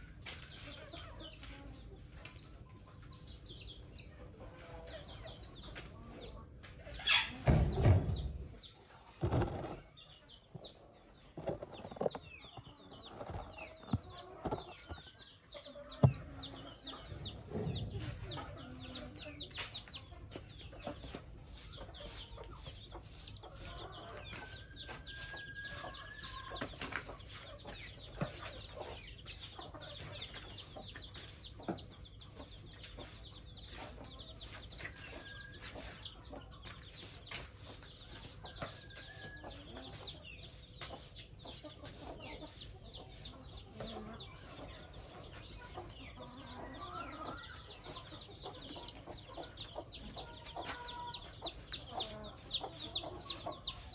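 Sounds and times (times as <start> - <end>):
chickens clucking: 0.0 - 53.9.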